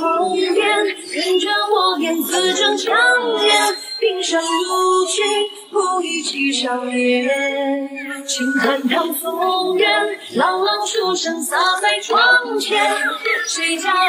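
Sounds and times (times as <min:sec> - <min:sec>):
woman singing pop song: 0:00.0 - 0:14.0.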